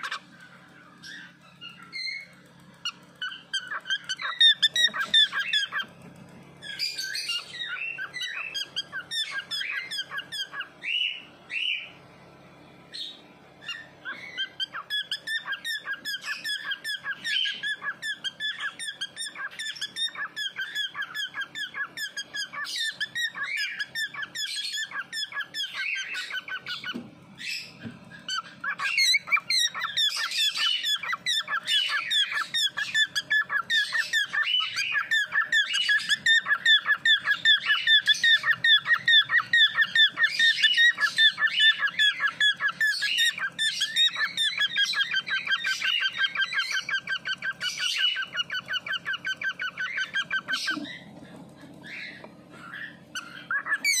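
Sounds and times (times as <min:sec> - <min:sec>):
chicks begging with raspy calls: 0:00.0 - 0:54.0.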